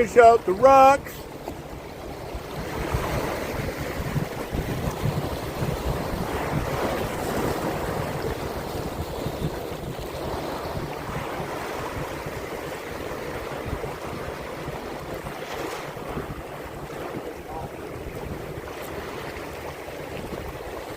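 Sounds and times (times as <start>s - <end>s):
sea water washing: 0.0s - 20.9s
wind buffeting microphone: 0.0s - 20.9s.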